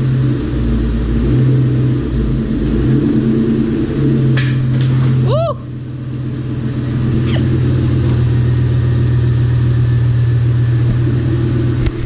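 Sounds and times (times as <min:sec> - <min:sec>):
car engine droning through exhaust: 0:00.0 - 0:12.0.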